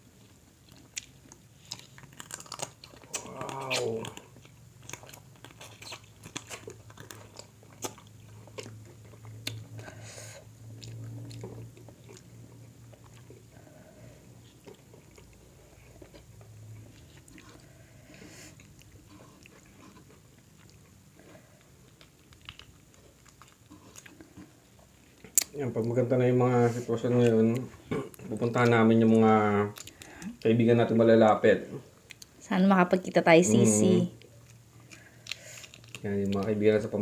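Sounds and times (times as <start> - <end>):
eating with wet crunches: 0.0 - 32.5, 34.1 - 37.0.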